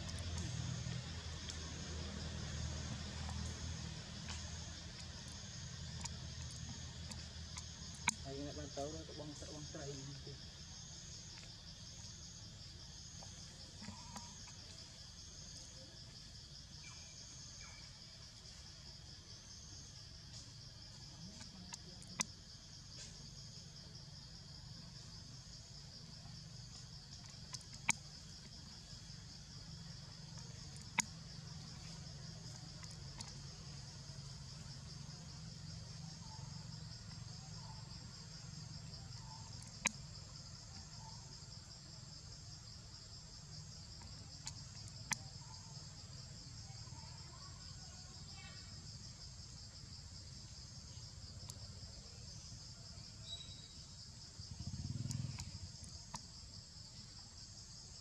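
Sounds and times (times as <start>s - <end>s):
insect chorus trilling: 0.0s - 58.0s.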